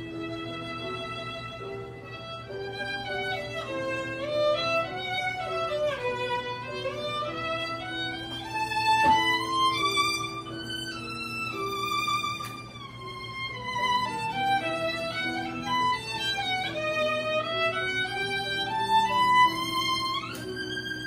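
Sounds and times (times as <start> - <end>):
violin melody: 0.0 - 21.0.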